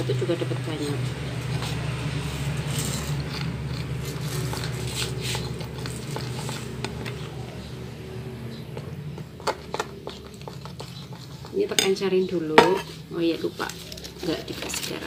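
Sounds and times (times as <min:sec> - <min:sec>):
spoon stirring batter in glass bowl: 0:00.0 - 0:15.0.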